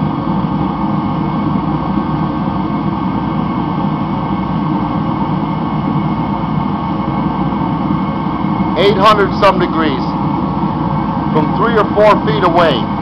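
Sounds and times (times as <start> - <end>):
faint steady hum: 0.0 - 13.0
heater fan and burner rushing: 0.0 - 13.0.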